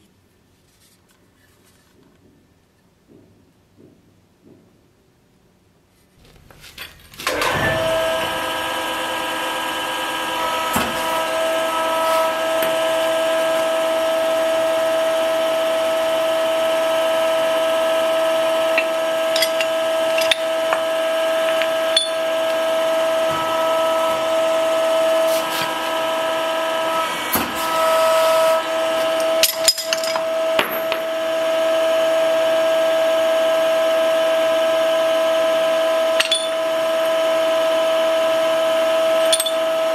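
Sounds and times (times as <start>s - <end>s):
electric motor whine: 6.2s - 39.9s.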